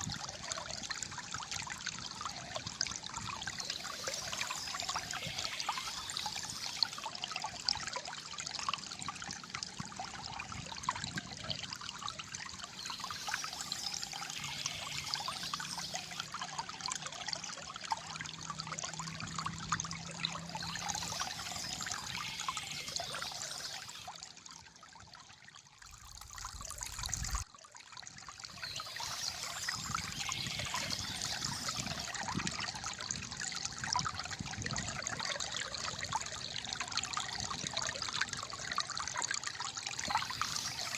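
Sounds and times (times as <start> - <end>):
water trickling and gurgling: 0.0 - 40.9.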